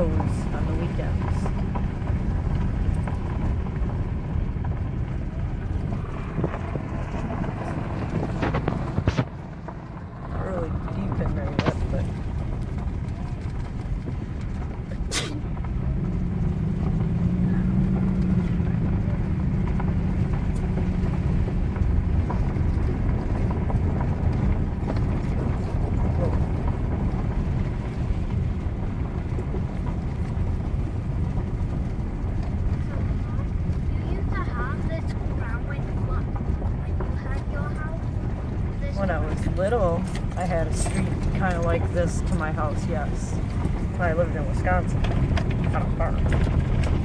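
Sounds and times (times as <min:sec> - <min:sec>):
car rumbling on dirt road: 0:00.0 - 0:47.0.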